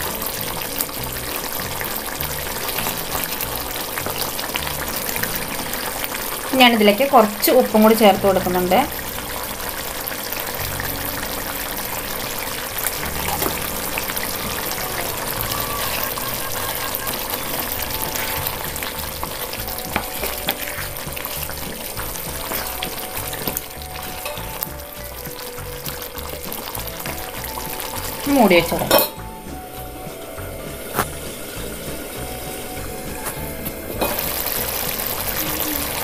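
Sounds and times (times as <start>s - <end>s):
curry sizzling in a pan: 0.0s - 36.0s.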